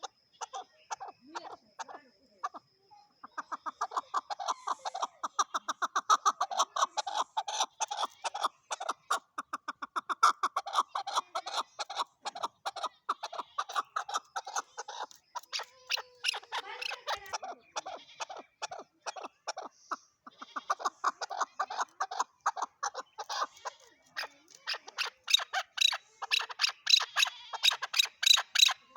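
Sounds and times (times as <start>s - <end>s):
partridge clucking calls: 0.0s - 28.9s.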